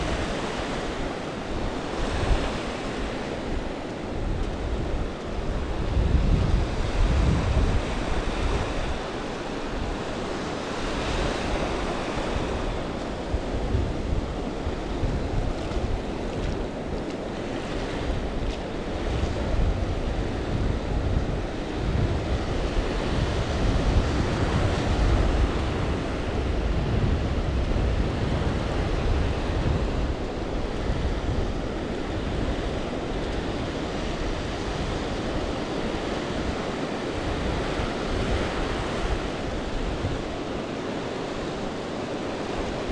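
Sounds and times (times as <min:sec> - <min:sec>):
surf lapping on sandy beach: 0:00.0 - 0:42.9
wind buffeting microphone: 0:00.0 - 0:42.9.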